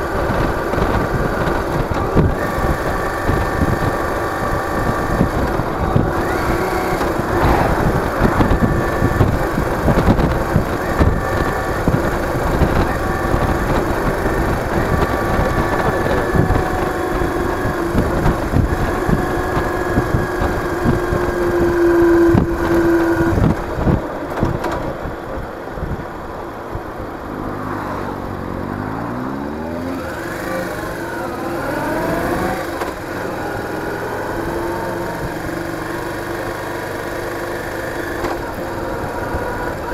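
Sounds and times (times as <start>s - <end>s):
motorcycle engine running: 0.0s - 24.3s, 29.4s - 39.9s
heavy wind: 0.0s - 39.9s
road rumble: 0.0s - 39.9s.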